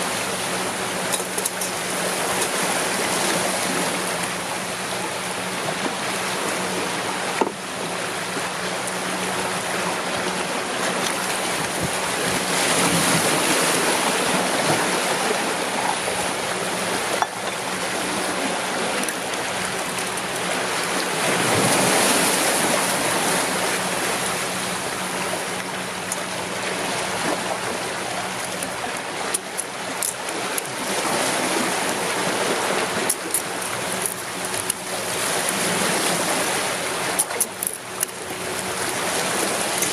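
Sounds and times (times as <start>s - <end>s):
surf washing over rocks: 0.0s - 39.9s.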